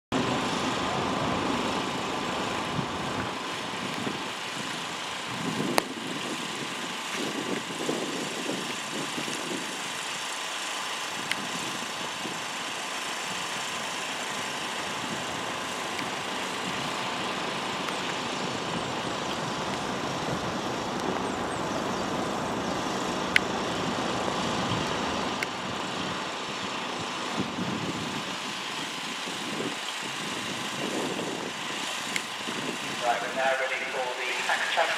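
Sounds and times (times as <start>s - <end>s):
outdoor noise: 0.1s - 34.9s
vehicle engine idling: 0.2s - 34.9s.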